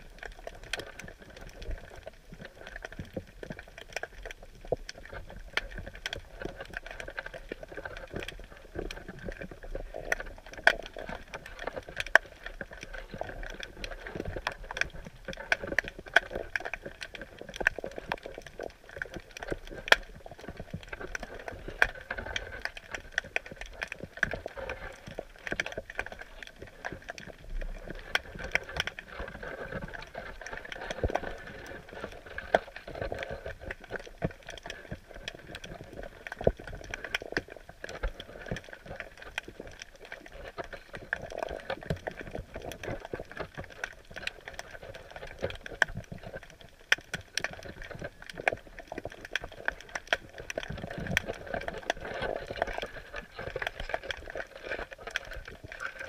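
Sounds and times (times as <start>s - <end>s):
underwater crackle of clicks: 0.0s - 56.0s.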